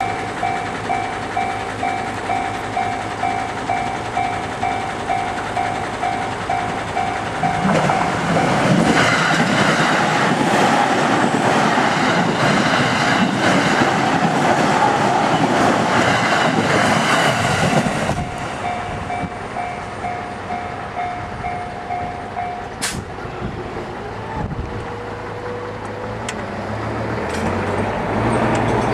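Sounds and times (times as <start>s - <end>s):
train wheels clacking: 0.0s - 23.3s.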